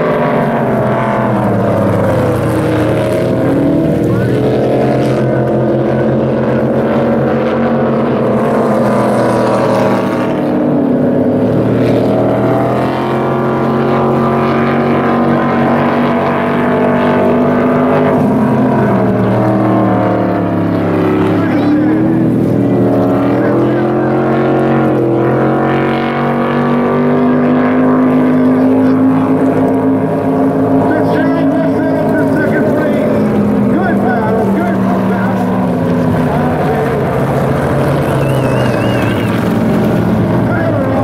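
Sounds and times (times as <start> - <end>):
racing boat engines roaring: 0.0 - 41.0.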